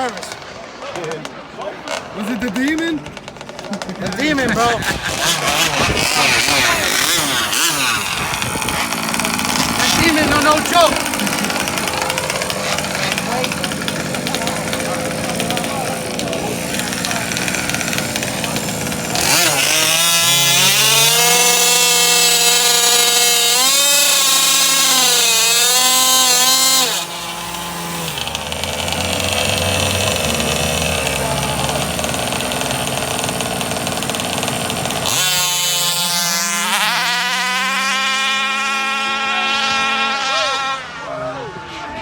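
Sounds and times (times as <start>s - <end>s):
engine running: 0.0s - 42.0s
small engines revving high: 1.2s - 42.0s.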